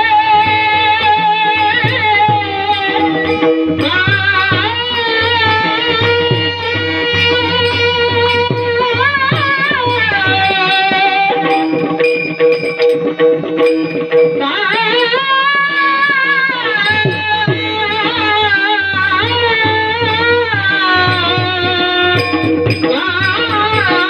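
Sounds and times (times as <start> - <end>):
sustained instrumental notes: 0.0 - 24.0.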